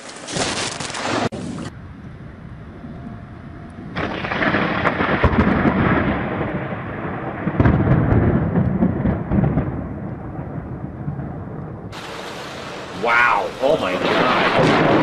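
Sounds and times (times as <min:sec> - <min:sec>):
thunder rumbling: 0:00.4 - 0:15.0.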